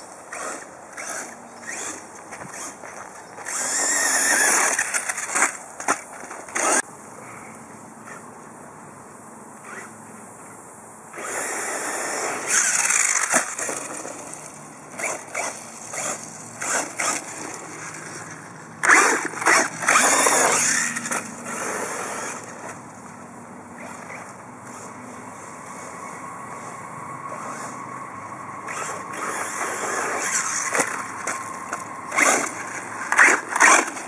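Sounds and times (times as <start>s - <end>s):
rc buggy motor bursts: 0.0s - 6.9s, 9.6s - 10.0s, 11.1s - 22.9s, 23.8s - 26.7s, 27.3s - 27.8s, 28.6s - 34.0s.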